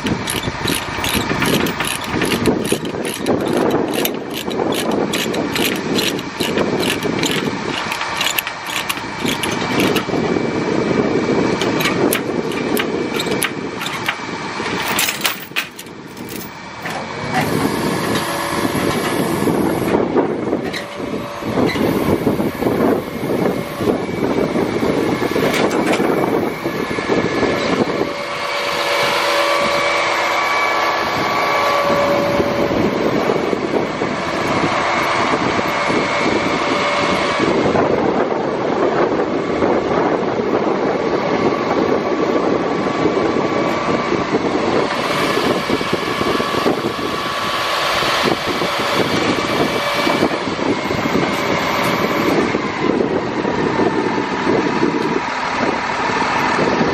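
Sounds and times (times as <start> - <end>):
hydraulic whine: 0.0 - 56.9
truck engine running: 0.0 - 56.9.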